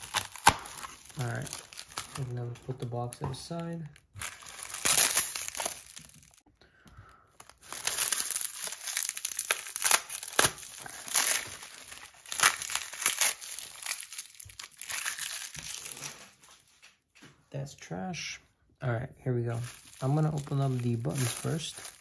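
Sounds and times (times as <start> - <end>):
packaging crinkling and tearing: 0.0 - 6.4, 7.3 - 16.9, 19.5 - 22.0.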